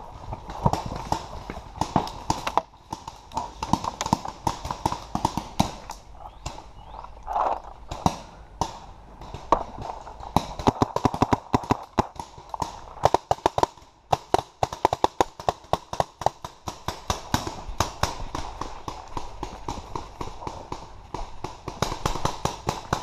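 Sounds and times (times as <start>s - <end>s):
paintball markers firing: 0.5s - 23.0s.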